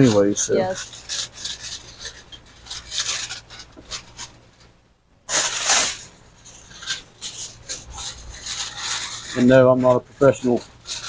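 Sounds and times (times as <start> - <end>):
aluminium foil crinkling: 0.0 - 4.7, 5.3 - 11.0.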